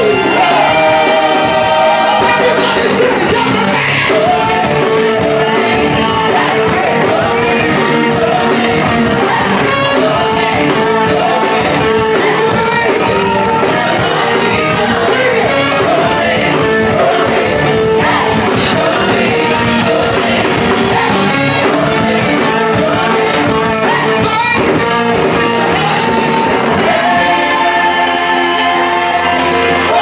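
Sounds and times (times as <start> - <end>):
drums: 0.0 - 30.0
electric guitar: 0.0 - 30.0
group of singers: 0.0 - 30.0.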